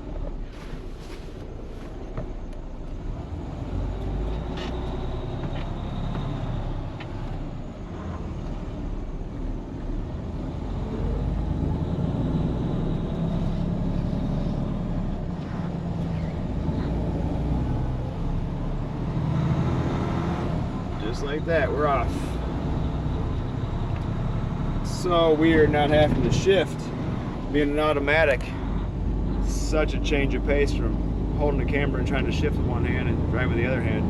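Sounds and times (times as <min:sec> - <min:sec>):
diesel truck engine under load: 0:00.0 - 0:34.0.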